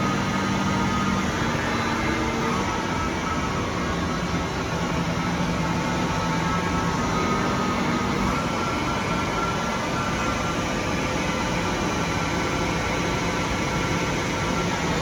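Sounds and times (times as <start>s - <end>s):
lathe humming with high whine: 0.0s - 15.0s.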